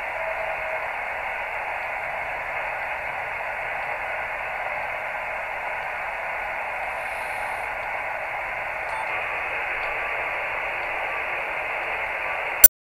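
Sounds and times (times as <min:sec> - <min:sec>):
faint mechanical whir: 0:00.0 - 0:12.7
radio static hiss: 0:00.6 - 0:12.7.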